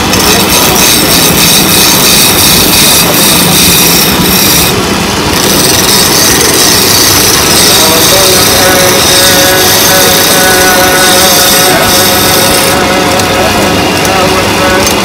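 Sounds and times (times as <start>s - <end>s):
chisel scraping spinning wood: 0.0s - 14.2s
wood lathe humming: 0.0s - 15.0s.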